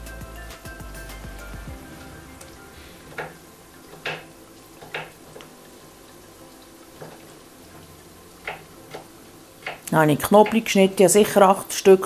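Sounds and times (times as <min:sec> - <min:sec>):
onions sizzling in a pan: 0:01.7 - 0:12.0.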